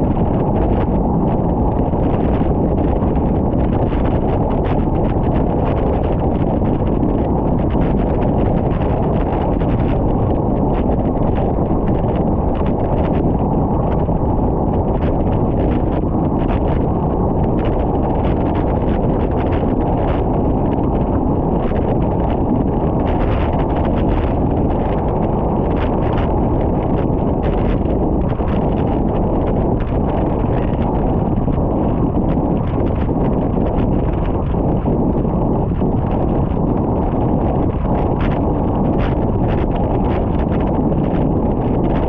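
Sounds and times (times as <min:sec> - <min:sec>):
wind noise on microphone: 0:00.0 - 0:42.0.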